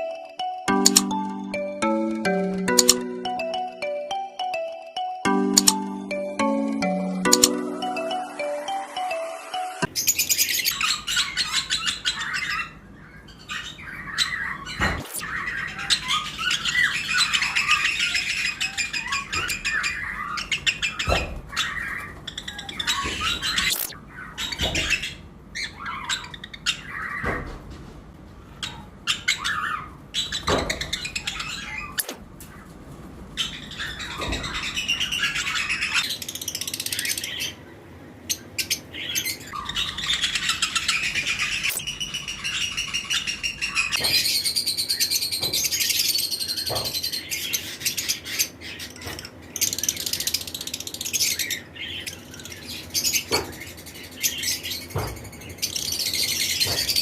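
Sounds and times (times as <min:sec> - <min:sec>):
flock of birds chirping: 0:00.0 - 0:27.6, 0:28.4 - 0:57.0.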